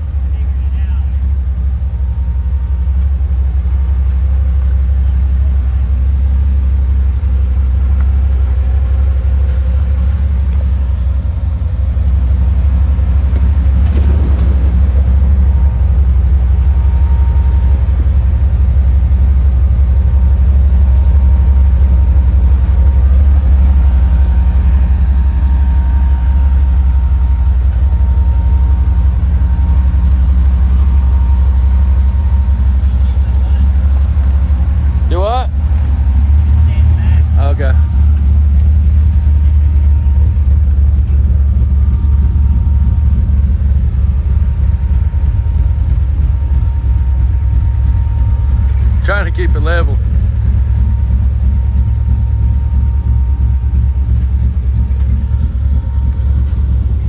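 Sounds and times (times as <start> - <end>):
pickup engine running: 0.0 - 57.0.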